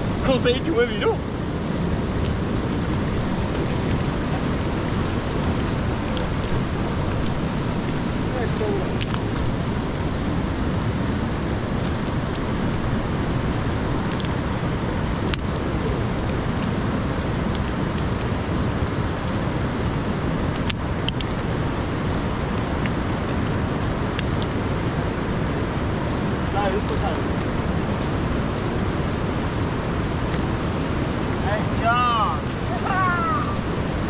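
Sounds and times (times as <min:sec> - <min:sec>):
fast-flowing river rushing: 0:00.0 - 0:34.0.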